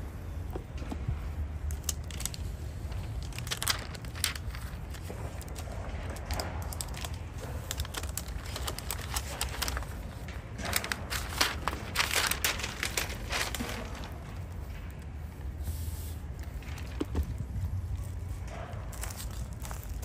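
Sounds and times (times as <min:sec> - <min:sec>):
paper wrap crinkling and rustling: 0:01.3 - 0:20.0.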